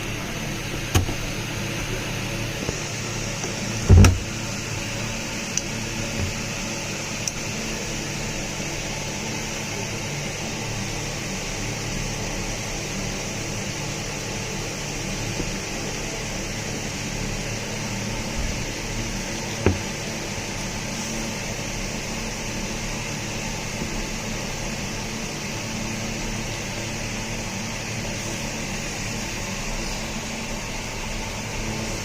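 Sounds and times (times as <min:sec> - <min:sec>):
low electrical hum: 0:00.0 - 0:32.0
steady hiss: 0:00.0 - 0:32.0.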